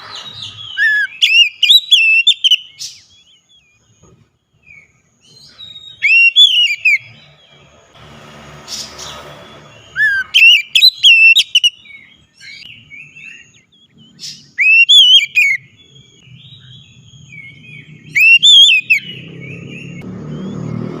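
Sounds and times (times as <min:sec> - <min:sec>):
bird whistled song: 0:00.0 - 0:07.7, 0:08.8 - 0:21.0
soft bird twittering: 0:00.0 - 0:08.0, 0:08.6 - 0:21.0.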